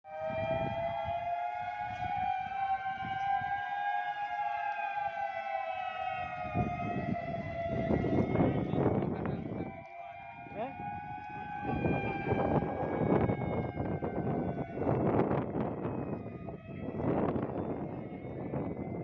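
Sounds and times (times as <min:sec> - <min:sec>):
siren long tone: 0:00.1 - 0:19.0.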